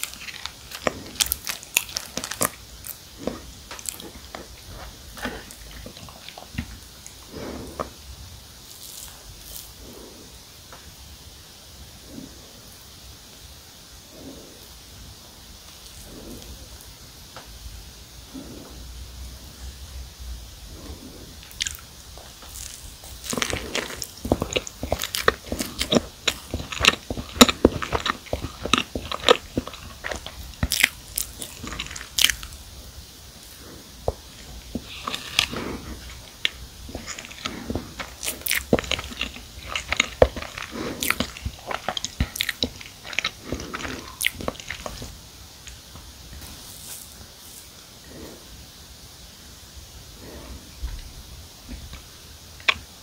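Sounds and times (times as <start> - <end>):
biting and chewing cookies: 0.0 - 10.9, 12.0 - 12.6, 14.1 - 14.7, 15.7 - 17.0, 18.3 - 18.8, 20.7 - 48.6, 51.7 - 53.0.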